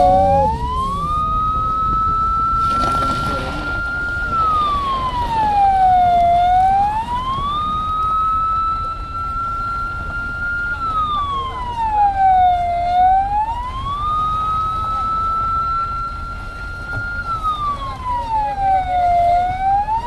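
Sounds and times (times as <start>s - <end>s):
siren sweeping: 0.0s - 20.0s.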